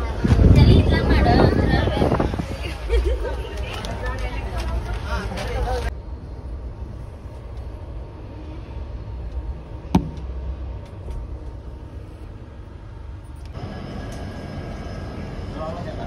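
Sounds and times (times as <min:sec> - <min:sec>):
train rumbling at platform: 0:00.0 - 0:16.0.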